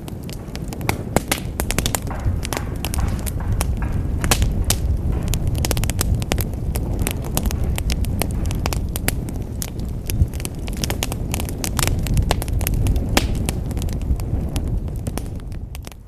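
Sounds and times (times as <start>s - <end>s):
low rumble of fire: 0.0s - 16.0s
wood fire crackling and popping: 0.0s - 16.0s.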